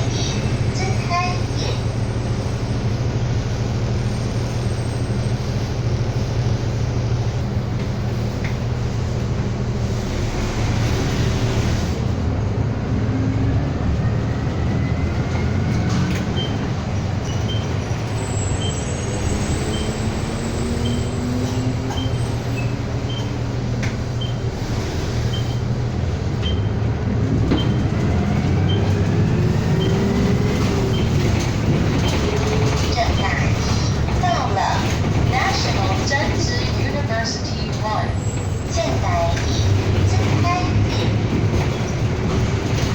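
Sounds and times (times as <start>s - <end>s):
bus engine running: 0.0s - 42.9s
rising drivetrain whine: 0.0s - 42.9s.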